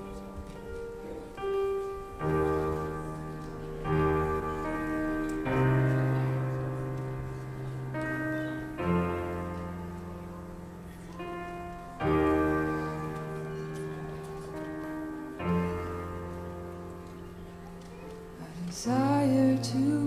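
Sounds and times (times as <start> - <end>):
slow piano chords ringing: 0.0 - 20.0.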